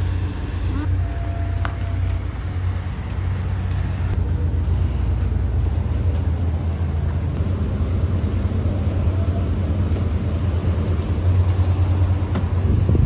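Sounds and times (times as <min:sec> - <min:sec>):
low engine rumble: 0:00.0 - 0:13.0
noisy road wash: 0:00.0 - 0:13.0.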